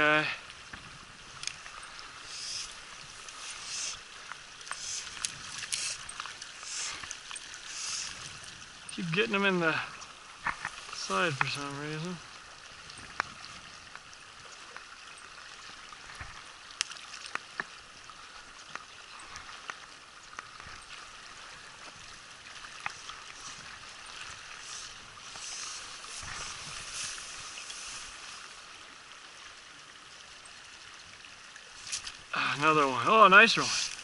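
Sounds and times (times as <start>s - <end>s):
river water running over rocks: 0.0s - 34.0s.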